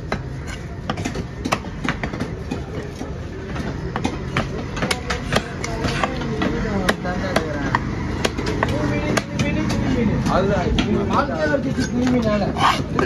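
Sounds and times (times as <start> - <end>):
knife chopping on wooden block: 0.0 - 10.9, 11.8 - 13.0.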